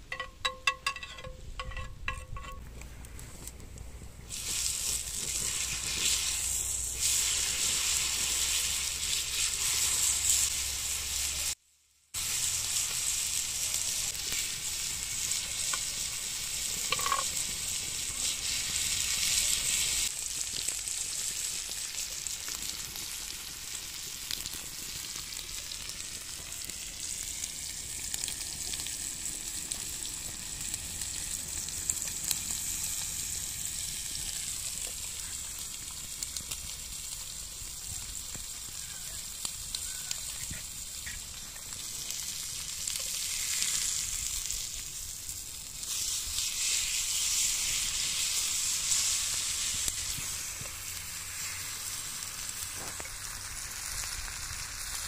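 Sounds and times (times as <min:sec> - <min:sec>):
steak sizzling in a pan: 0:04.3 - 0:55.0.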